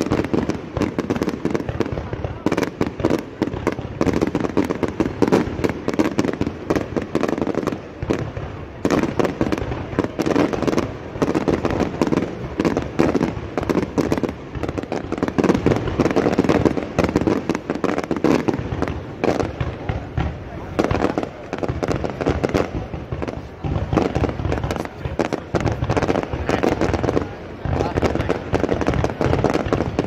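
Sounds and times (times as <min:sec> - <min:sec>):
fireworks popping and crackling: 0:00.0 - 0:30.0.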